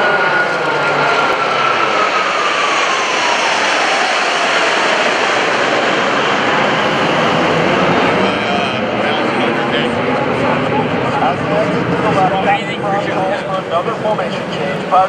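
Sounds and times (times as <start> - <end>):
jets passing overhead: 0.0 - 15.0.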